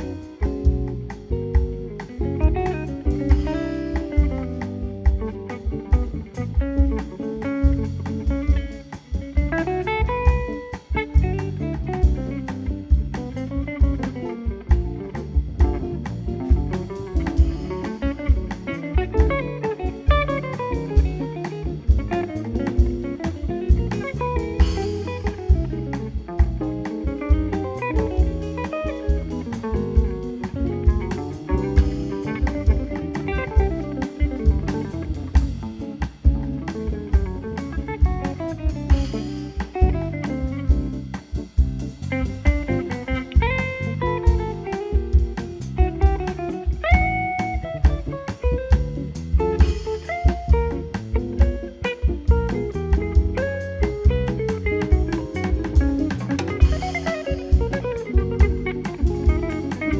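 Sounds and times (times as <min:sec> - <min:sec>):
bass line: 0:00.0 - 0:59.9
drum kit beat: 0:00.0 - 0:59.9
guitar melodic runs: 0:00.0 - 0:59.9.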